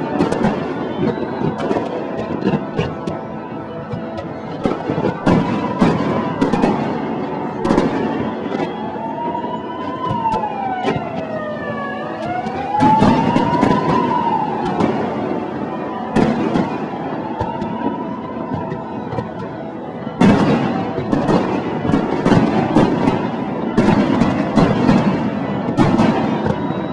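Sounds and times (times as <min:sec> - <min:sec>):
fireworks bangs and crackles: 0:00.0 - 0:26.9
siren wailing: 0:00.0 - 0:26.9.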